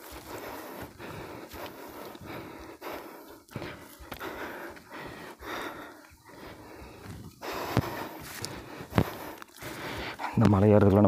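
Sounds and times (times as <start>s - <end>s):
person panting heavily: 0.0s - 10.4s.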